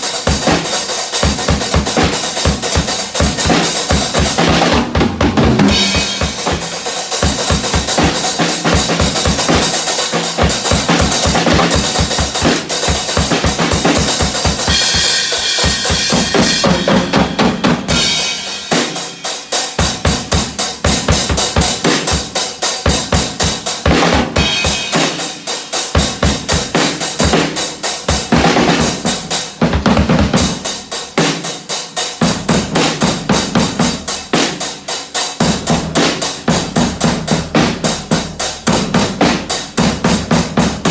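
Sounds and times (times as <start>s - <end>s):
drum kit playing fast beat: 0.0s - 40.9s.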